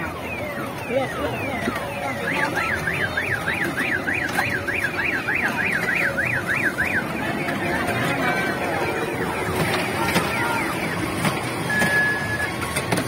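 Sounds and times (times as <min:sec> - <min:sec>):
electronic siren warbling: 0:00.0 - 0:12.6.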